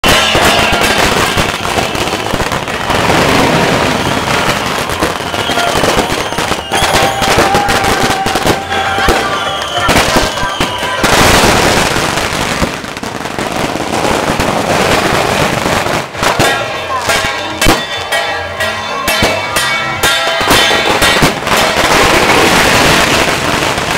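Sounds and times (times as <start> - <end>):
firecrackers crackling: 0.0 - 23.9.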